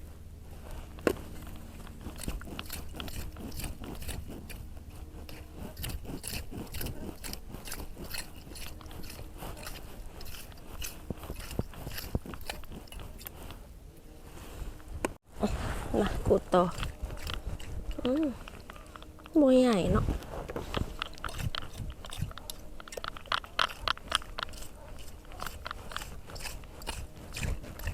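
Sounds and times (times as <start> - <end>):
digging tool crunching wet sand: 0.6 - 13.6, 15.8 - 27.9.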